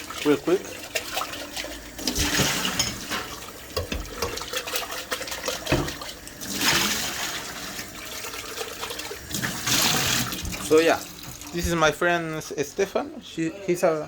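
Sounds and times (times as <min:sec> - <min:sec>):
tap water running and splashing: 0:00.0 - 0:12.5.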